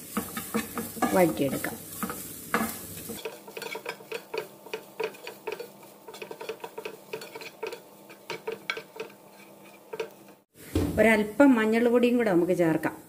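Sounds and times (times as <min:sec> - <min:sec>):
wooden spatula scraping frying pan: 0:00.0 - 0:10.5.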